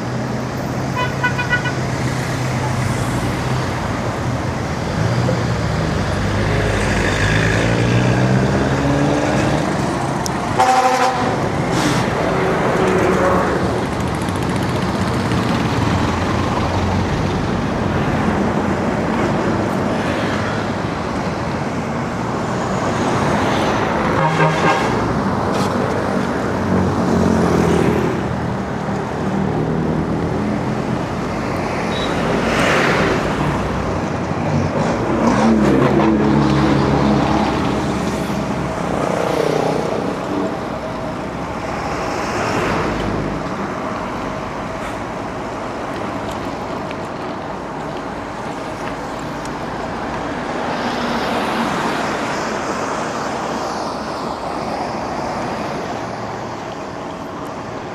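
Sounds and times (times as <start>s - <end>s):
cars passing: 0.0s - 57.9s.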